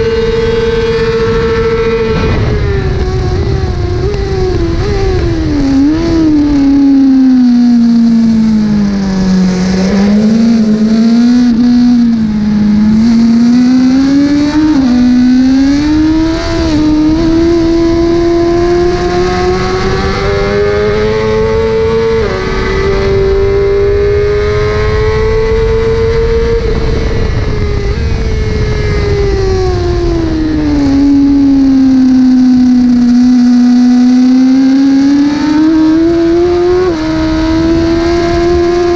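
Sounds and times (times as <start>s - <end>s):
superbike engine revving: 0.0s - 38.9s.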